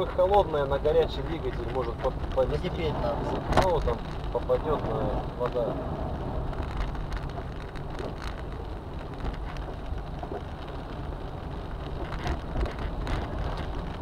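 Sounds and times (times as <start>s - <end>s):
low car hum: 0.0s - 14.0s
rain pattering on a car: 0.0s - 14.0s
tyres hissing on wet road: 0.0s - 14.0s.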